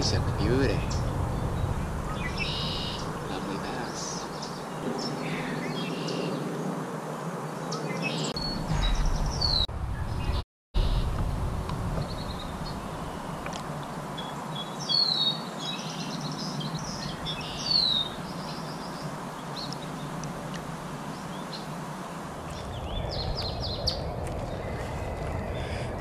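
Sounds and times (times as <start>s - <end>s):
outdoor background hiss: 0.0s - 8.6s, 9.2s - 23.8s
wild birds calling: 0.0s - 11.2s, 11.9s - 26.0s.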